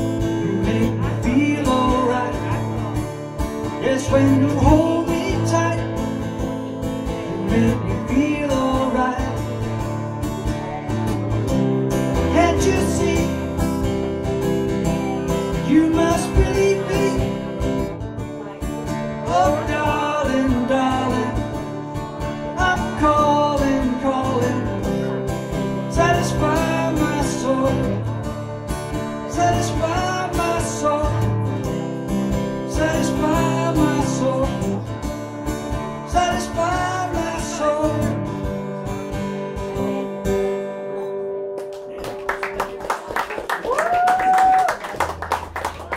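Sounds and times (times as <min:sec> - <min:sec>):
man singing: 0:00.0 - 0:11.1, 0:12.1 - 0:18.0, 0:18.6 - 0:41.1
acoustic guitar: 0:00.0 - 0:45.9.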